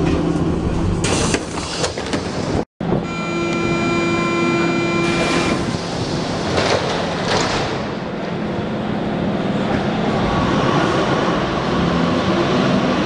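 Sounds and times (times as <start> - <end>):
train humming: 0.0 - 13.0.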